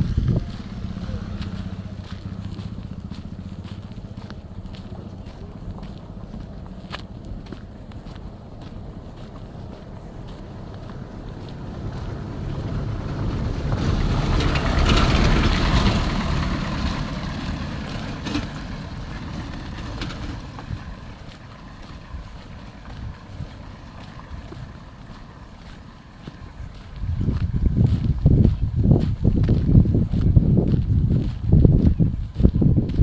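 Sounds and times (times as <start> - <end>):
vehicle passing by: 0.0 - 33.0.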